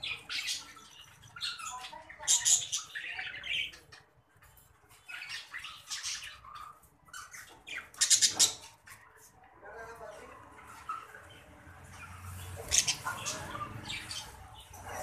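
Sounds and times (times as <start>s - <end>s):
budgerigars chattering and squawking: 0.0s - 15.0s.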